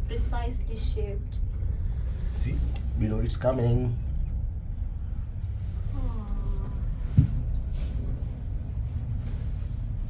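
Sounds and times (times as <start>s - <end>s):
cable car cabin rumble: 0.0s - 10.0s.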